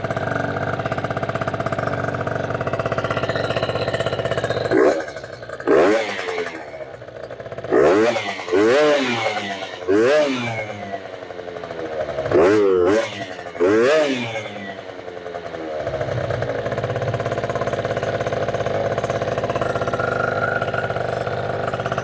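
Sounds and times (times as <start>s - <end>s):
scooter engine revving: 0.0s - 22.0s.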